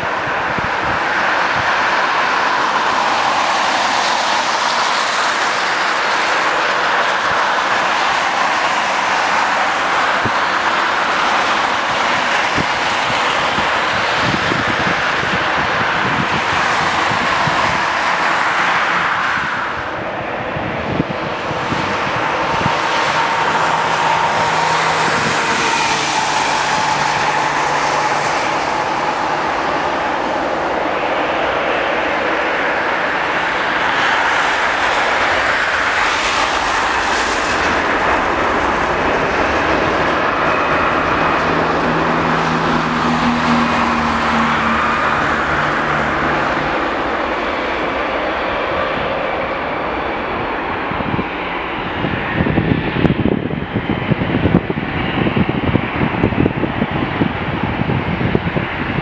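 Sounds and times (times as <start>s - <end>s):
jet engines rushing with whine: 0.0s - 59.0s.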